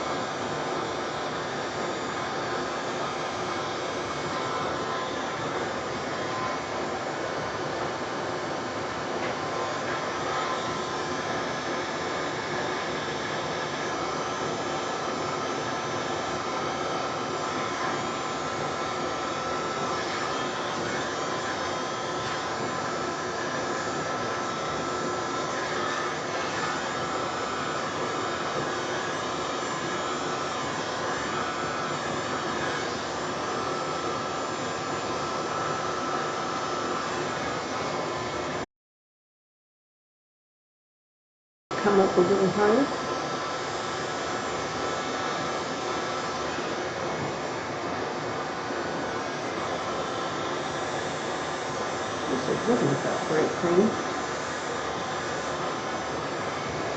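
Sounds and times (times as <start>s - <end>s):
hair dryer running: 0.0s - 38.6s, 41.8s - 56.9s.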